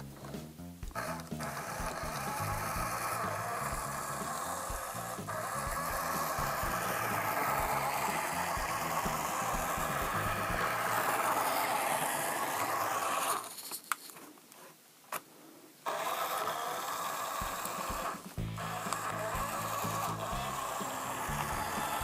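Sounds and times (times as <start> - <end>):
toy truck motor whirring: 0.9 - 14.2, 15.8 - 22.0.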